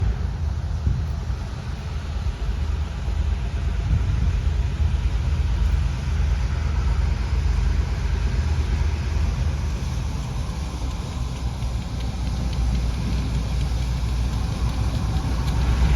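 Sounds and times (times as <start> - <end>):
diesel locomotive engines rumbling: 0.0 - 15.9.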